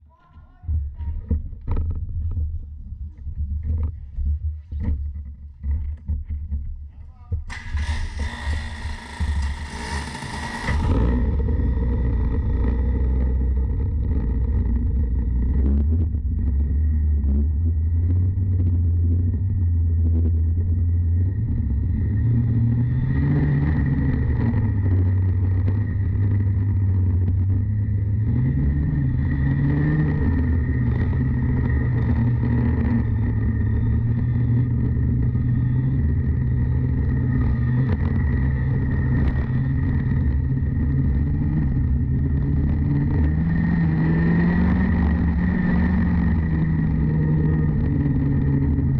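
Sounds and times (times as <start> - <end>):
kart two-stroke engine running: 7.5 - 48.9.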